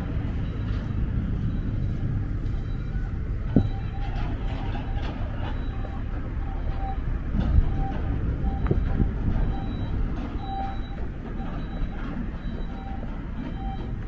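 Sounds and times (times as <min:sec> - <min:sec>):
low rumble of city traffic: 0:00.0 - 0:14.0.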